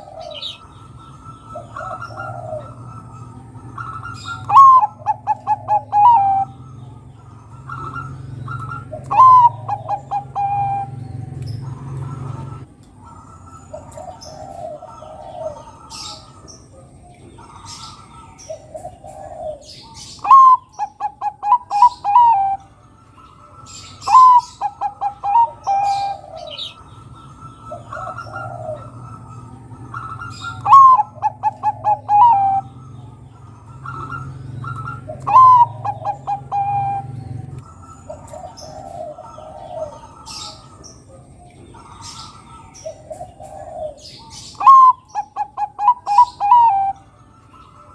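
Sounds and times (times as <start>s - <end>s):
softer bird coos: 0.0s - 6.6s, 7.2s - 22.7s, 23.6s - 47.0s
dove cooing song: 0.0s - 47.9s.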